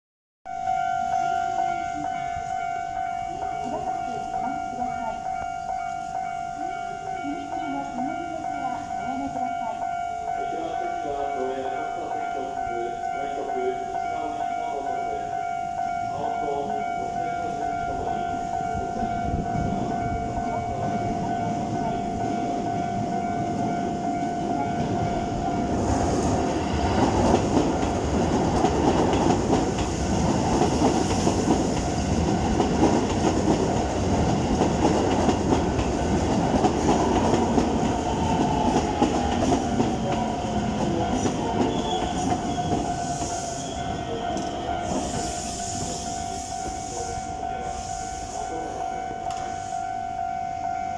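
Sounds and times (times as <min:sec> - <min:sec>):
level crossing alarm ringing: 0:00.4 - 0:50.9
train wheels rumbling: 0:01.5 - 0:50.8.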